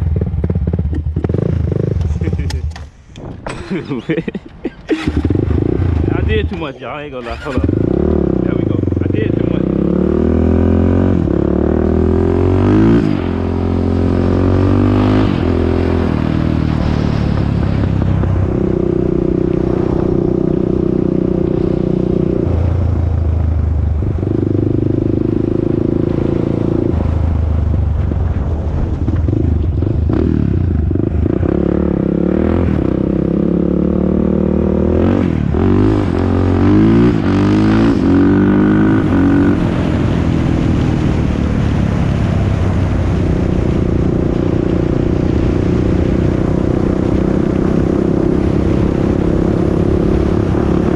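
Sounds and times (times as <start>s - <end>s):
atv engine revving: 0.0s - 2.8s, 4.8s - 27.2s, 29.1s - 50.9s.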